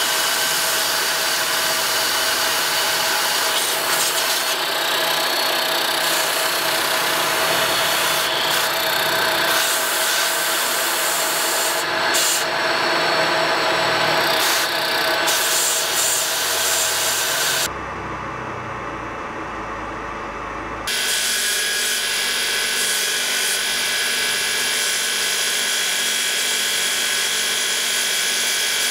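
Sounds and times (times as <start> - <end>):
milling machine cutting brass: 0.0 - 17.7, 20.9 - 28.9
motor hum: 0.0 - 24.8.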